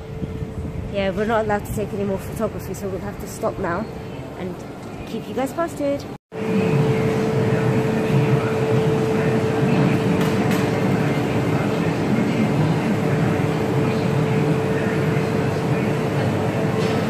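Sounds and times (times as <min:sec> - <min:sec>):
constant hum: 0:00.0 - 0:17.0
industrial fans and furnace roaring: 0:00.0 - 0:17.0.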